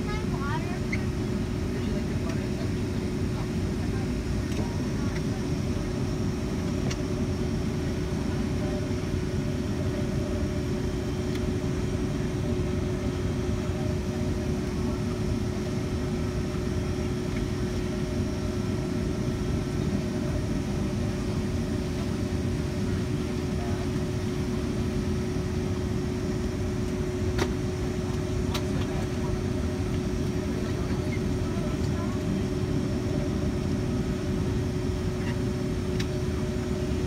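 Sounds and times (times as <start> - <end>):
aircraft cabin drone: 0.0 - 37.0.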